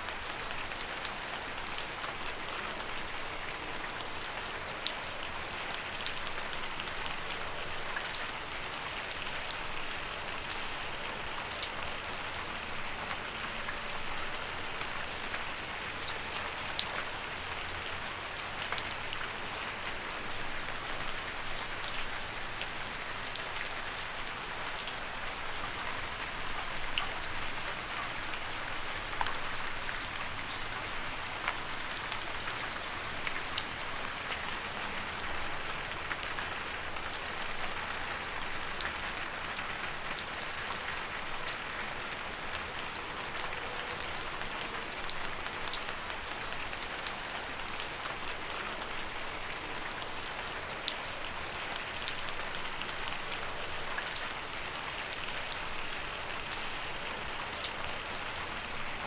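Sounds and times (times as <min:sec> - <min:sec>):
raindrops pattering on a surface: 0:00.0 - 0:59.0
steady rain falling: 0:00.0 - 0:59.0.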